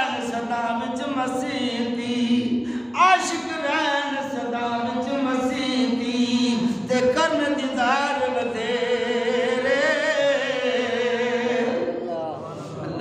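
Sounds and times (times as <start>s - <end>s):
man singing devotional verse: 0.0s - 11.9s.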